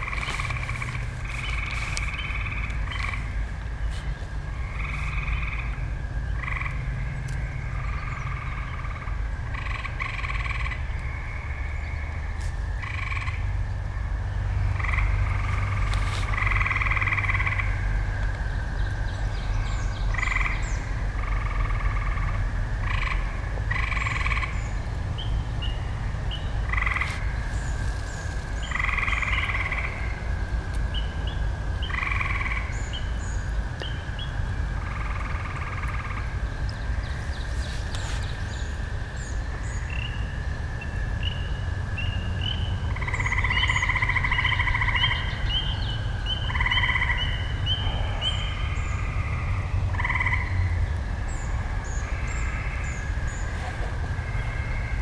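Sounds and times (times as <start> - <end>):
drone of many frogs: 0.0 - 55.0
frogs trilling: 0.0 - 55.0.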